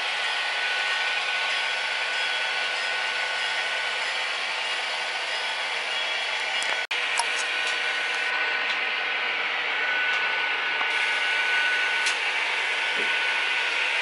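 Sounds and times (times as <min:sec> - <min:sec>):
model trains whirring: 0:00.0 - 0:14.0.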